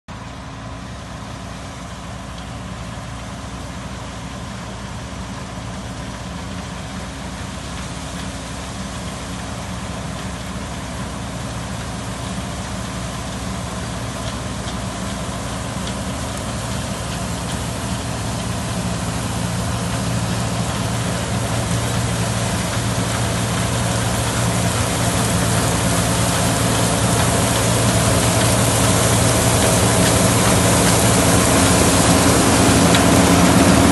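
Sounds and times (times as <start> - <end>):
combine harvester running: 0.1 - 33.9
rushing hiss of crop: 6.4 - 33.9.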